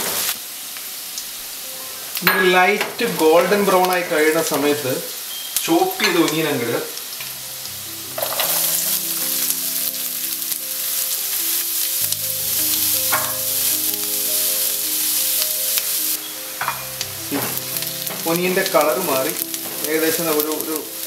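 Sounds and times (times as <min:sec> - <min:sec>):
onions sizzling in oil: 0:00.0 - 0:21.0
background music of held notes: 0:01.3 - 0:21.0.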